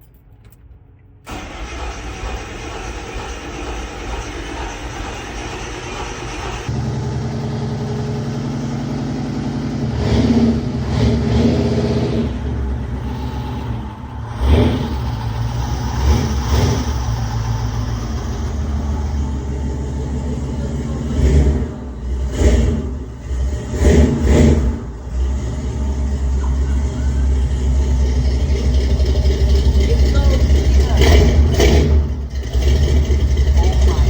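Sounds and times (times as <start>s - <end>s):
pickup truck engine revving: 1.3s - 34.0s.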